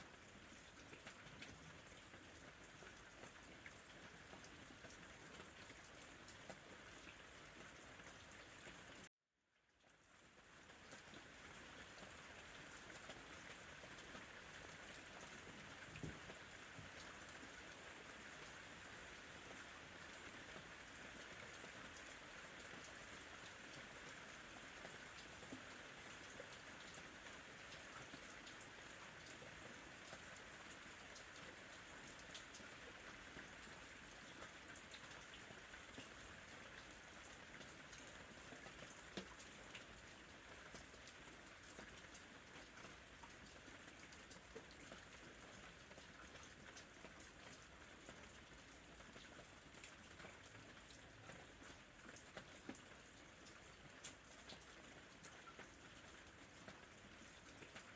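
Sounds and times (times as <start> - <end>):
soft steady rain: 0.0 - 57.9.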